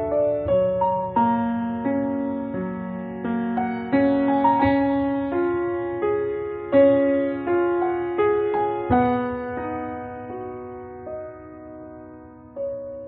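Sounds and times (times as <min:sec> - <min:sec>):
slow gentle piano: 0:00.0 - 0:13.0.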